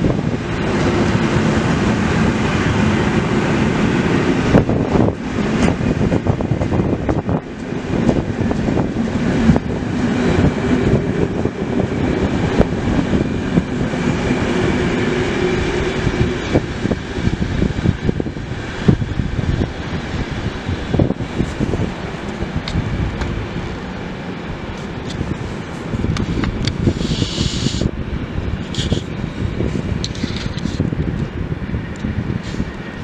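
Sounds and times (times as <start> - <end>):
train coaches rumbling past: 0.0 - 33.0.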